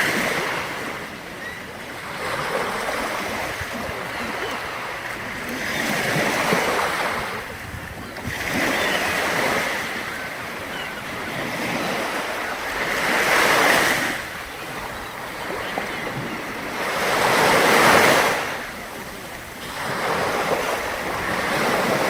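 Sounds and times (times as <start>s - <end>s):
waves washing in and back: 0.0s - 22.0s.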